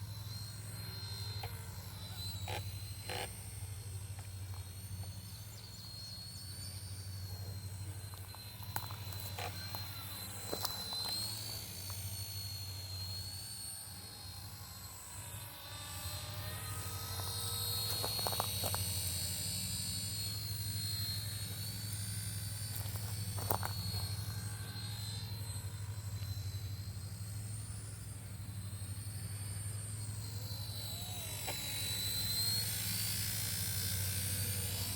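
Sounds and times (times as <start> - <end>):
helicopter rotor hum: 0.0 - 34.9
high motor whine: 0.0 - 34.9.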